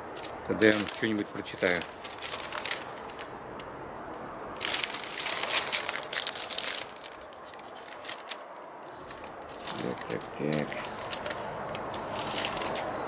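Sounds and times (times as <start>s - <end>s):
paper rustling and crinkling: 0.0s - 3.4s, 4.6s - 13.0s.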